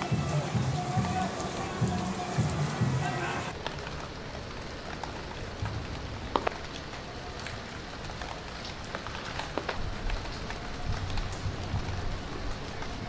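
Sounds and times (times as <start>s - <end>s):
rain-like patter: 0.0s - 13.0s.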